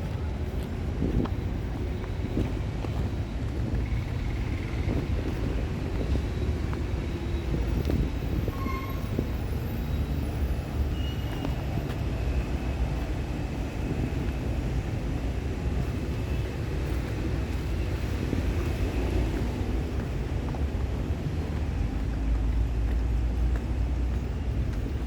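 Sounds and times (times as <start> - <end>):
low rumble of street ambience: 0.0 - 25.0.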